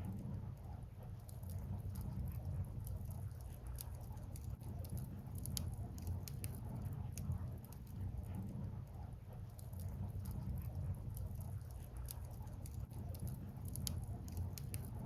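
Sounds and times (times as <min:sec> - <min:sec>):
burning firewood crackling: 0:01.2 - 0:08.5, 0:09.5 - 0:15.0.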